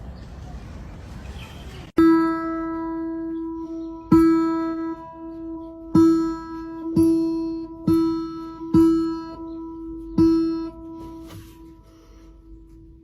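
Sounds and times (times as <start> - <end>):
acoustic guitar strummed: 2.0 - 13.0.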